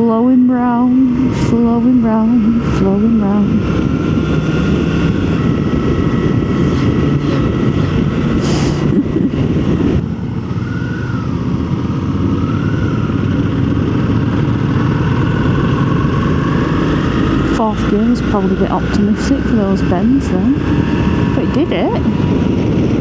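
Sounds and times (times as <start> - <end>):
motorcycle engine running: 0.0 - 23.0
wind rush: 0.0 - 23.0.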